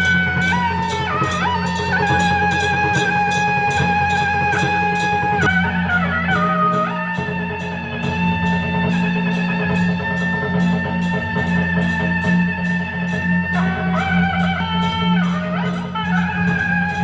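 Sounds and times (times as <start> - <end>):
drum and cymbal strokes: 0.0 - 17.0.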